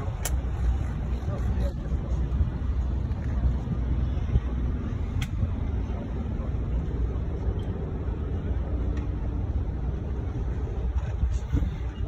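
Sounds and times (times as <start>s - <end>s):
motorboat engine rumbling: 0.0s - 12.0s.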